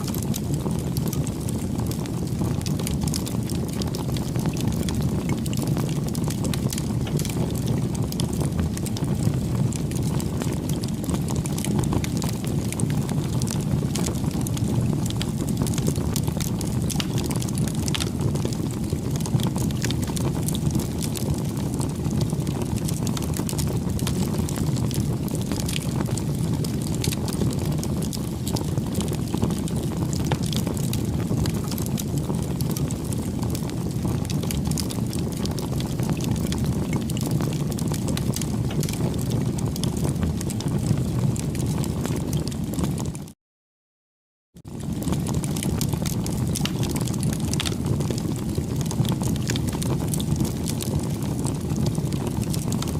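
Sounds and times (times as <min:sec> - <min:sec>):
burning wood crackling and popping: 0:00.0 - 0:43.2, 0:44.6 - 0:52.9
low rumble of flames: 0:00.0 - 0:43.3, 0:44.6 - 0:52.9.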